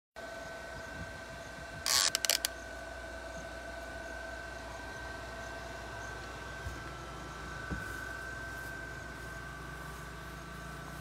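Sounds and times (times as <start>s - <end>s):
faint two-tone whine: 0.2s - 11.0s.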